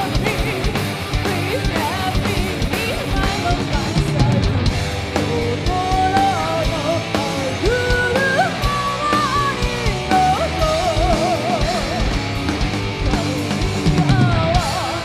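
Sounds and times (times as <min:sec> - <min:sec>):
woman singing: 0:00.0 - 0:12.2, 0:13.0 - 0:15.0
heavy metal band playing: 0:00.0 - 0:15.0.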